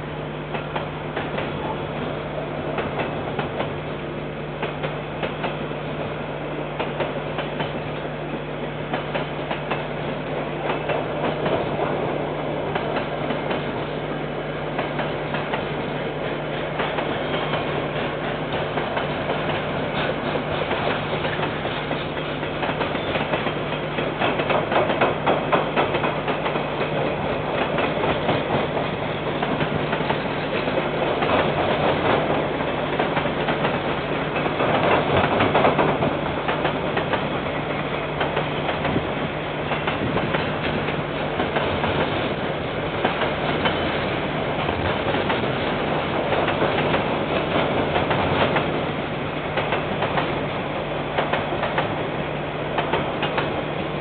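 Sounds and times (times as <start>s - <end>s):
freight train wheels rumbling: 0.0s - 54.0s
wheels clacking over rail joints: 2.4s - 3.8s, 6.8s - 7.8s, 8.8s - 14.0s, 14.7s - 54.0s.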